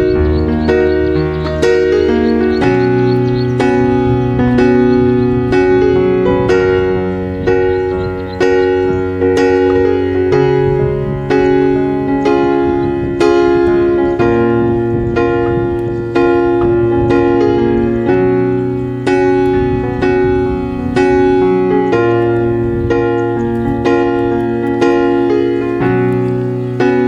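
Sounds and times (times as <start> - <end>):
slow piano chords: 0.0 - 27.0.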